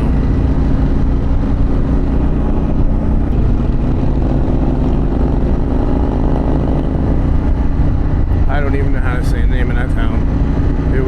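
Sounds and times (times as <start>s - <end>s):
motorcycle engine running: 0.0s - 11.0s
wind rushing: 0.0s - 11.0s.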